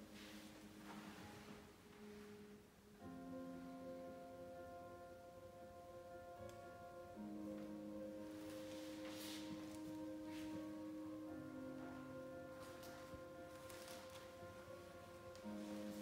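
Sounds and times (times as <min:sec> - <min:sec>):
soft sustained chords: 0:00.0 - 0:16.0.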